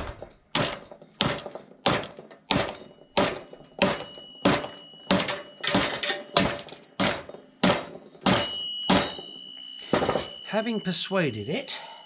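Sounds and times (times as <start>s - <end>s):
hammer striking metal: 0.0s - 10.4s.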